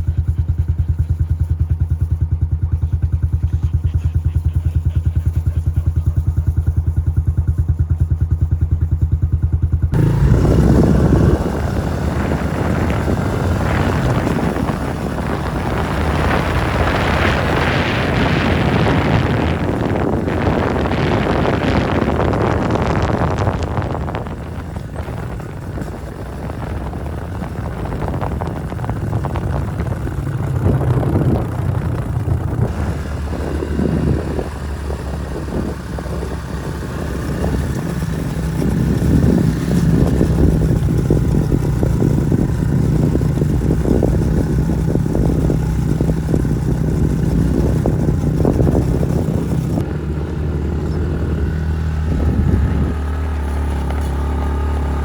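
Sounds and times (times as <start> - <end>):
small vehicle engine running: 0.0 - 55.0
noisy rushing: 9.9 - 55.0.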